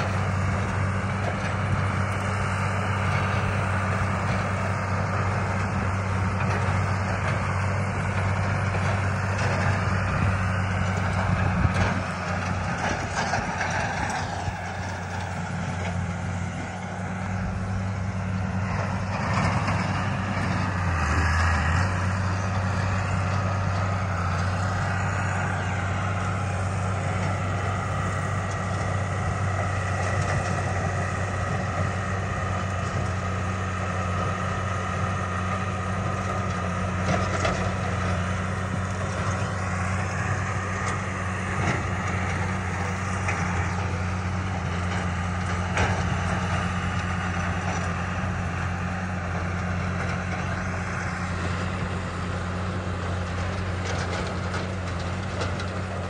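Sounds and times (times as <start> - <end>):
tractor engine drone: 0.0 - 56.0.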